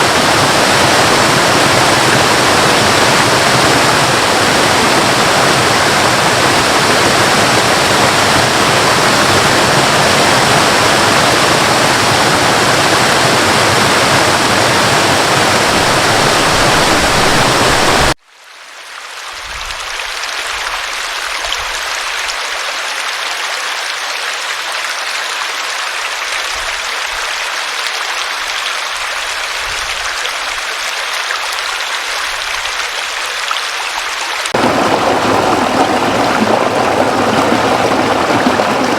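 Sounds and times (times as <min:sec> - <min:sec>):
water rushing: 0:00.0 - 0:18.2, 0:19.1 - 0:38.9.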